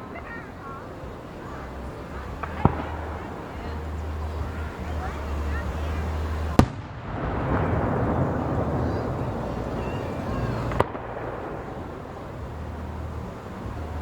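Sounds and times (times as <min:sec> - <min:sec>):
firework bangs: 0:00.0 - 0:14.0
fireworks crackling: 0:00.0 - 0:14.0.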